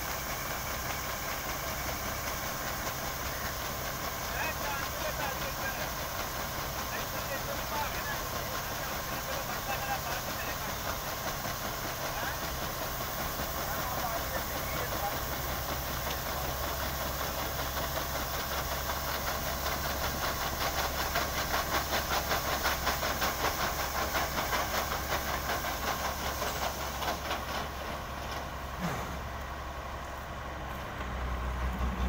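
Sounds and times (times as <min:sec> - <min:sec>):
grain pouring hiss: 0:00.0 - 0:30.0
combine engine drone: 0:00.0 - 0:32.0.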